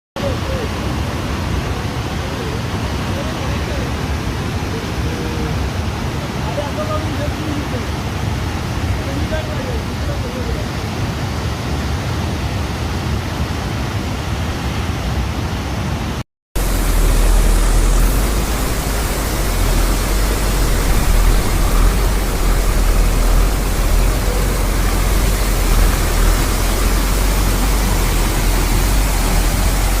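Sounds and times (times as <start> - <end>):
waterfall rushing: 0.2 - 12.1, 16.6 - 30.0.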